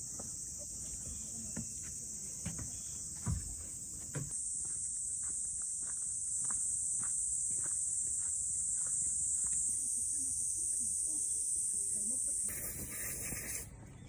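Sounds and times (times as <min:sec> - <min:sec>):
crickets chirping: 0:00.0 - 0:13.7.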